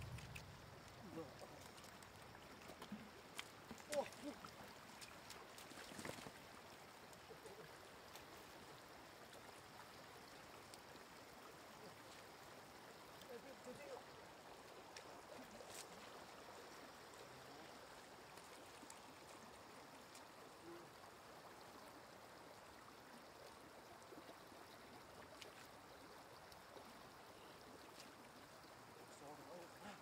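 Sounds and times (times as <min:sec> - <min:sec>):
shallow running water: 0:00.0 - 0:30.0.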